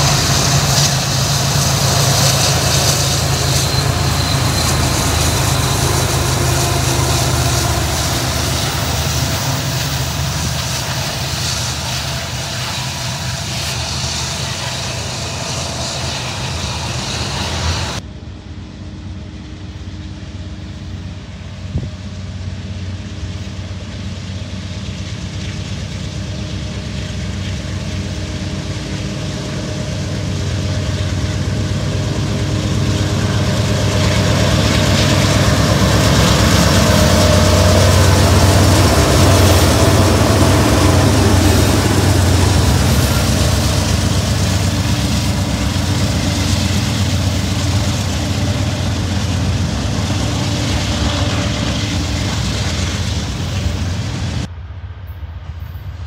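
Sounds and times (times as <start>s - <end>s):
diesel locomotive engine drone: 0.0s - 56.0s
freight cars rumbling by: 0.0s - 56.0s.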